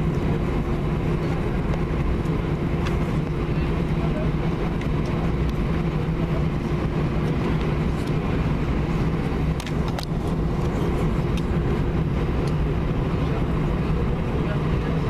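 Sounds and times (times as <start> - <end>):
low aircraft engine drone: 0.0 - 15.0
steady hum: 0.0 - 15.0.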